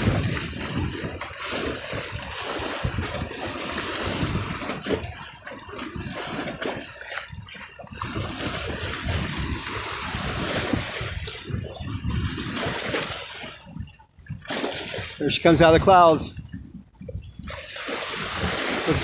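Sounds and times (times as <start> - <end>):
waves lapping against bank: 0.0 - 19.0.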